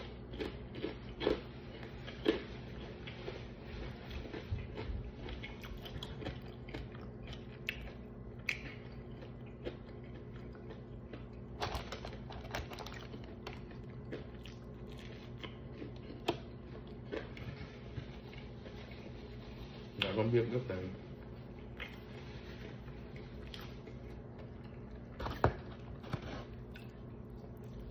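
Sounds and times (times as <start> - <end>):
person chewing food: 0.0 - 20.2, 21.0 - 27.9.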